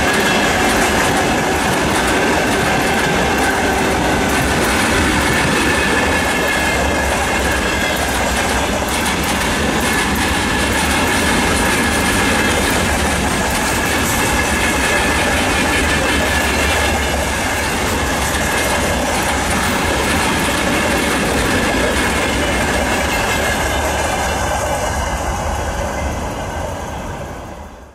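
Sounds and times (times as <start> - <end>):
train wheels clattering: 0.0 - 27.9.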